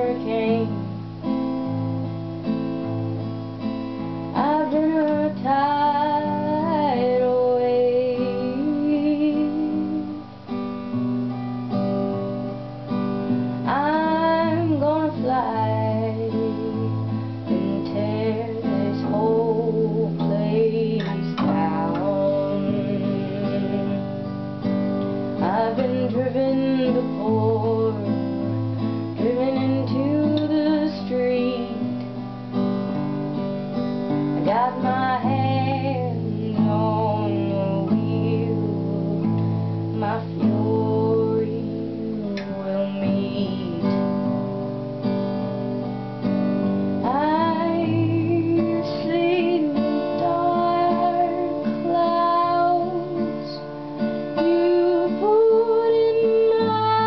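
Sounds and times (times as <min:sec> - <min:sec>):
woman singing: 0:00.0 - 0:01.0, 0:04.3 - 0:10.6, 0:13.2 - 0:32.3, 0:34.1 - 0:44.6, 0:46.2 - 0:57.0
acoustic guitar chords: 0:00.0 - 0:57.0.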